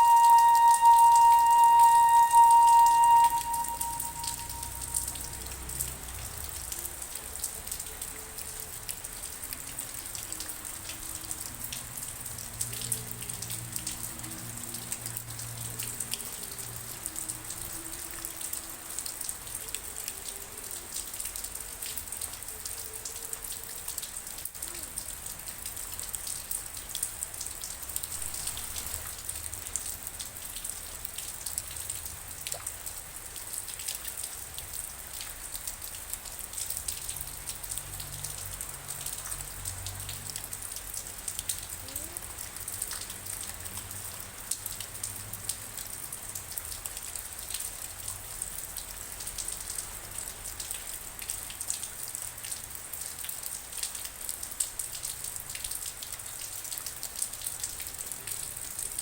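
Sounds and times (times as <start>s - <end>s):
rain drops hitting surface: 0.0s - 59.0s.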